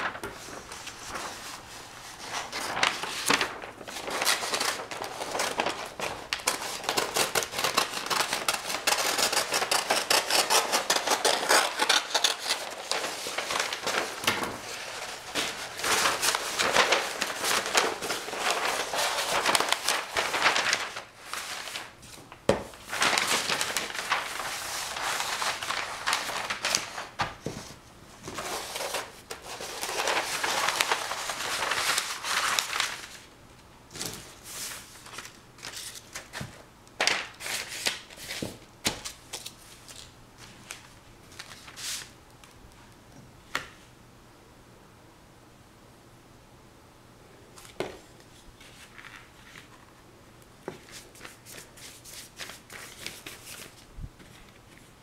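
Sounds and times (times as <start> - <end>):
large paper sheet rustling: 0.0 - 42.2, 47.6 - 50.0, 50.6 - 55.0.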